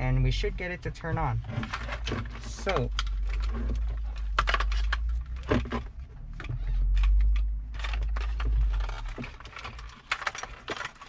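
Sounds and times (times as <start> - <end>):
low rumble: 0.0 - 9.8
plastic connectors clicking: 1.6 - 11.0.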